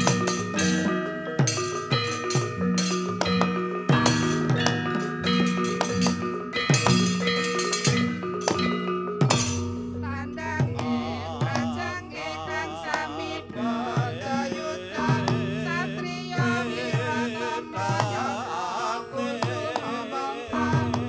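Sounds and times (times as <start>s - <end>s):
hand drum strokes dropping in pitch: 0.0s - 18.4s
ringing metallophone and gong chimes: 0.0s - 18.4s, 20.5s - 21.0s
wavering melody with heavy vibrato: 0.0s - 21.0s.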